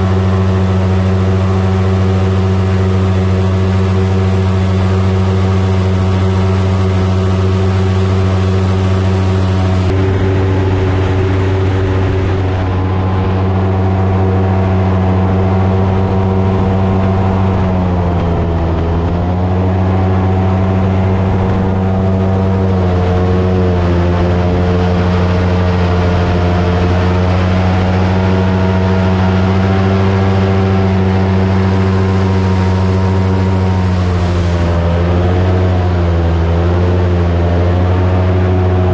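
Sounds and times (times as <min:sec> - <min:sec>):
airboat engine and propeller: 0:00.0 - 0:38.9.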